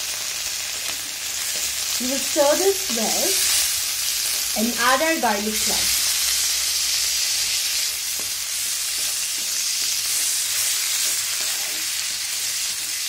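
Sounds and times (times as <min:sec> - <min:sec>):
butter sizzling in a pan: 0:00.0 - 0:13.0.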